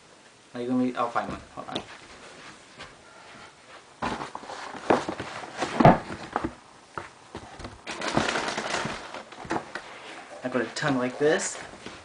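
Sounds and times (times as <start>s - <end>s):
footsteps: 1.2s - 12.0s.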